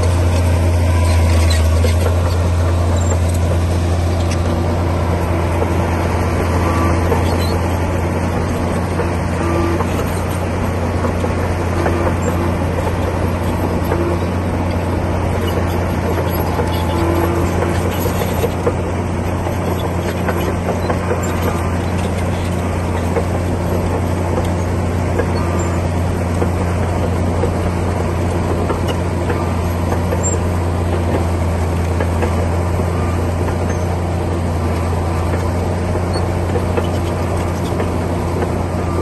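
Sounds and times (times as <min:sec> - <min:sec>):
bulldozer diesel engine humming: 0:00.0 - 0:39.0.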